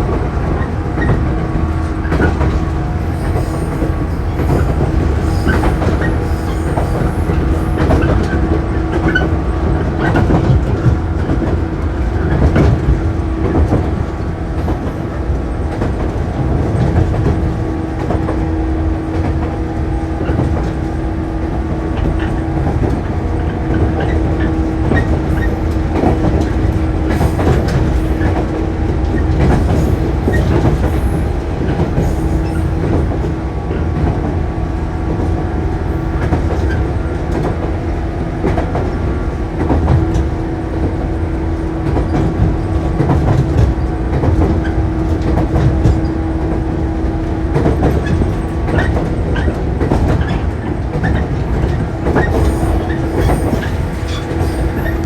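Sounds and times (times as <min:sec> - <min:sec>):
steady train tone: 0:00.0 - 0:55.0
train wheels rumbling: 0:00.0 - 0:55.0.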